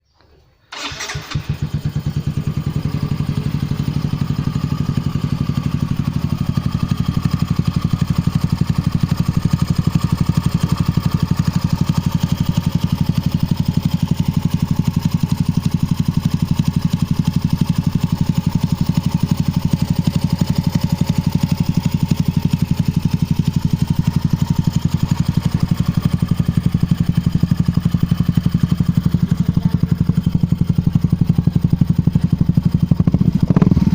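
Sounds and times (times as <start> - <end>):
scooter engine starting and idling: 0.7 - 33.9.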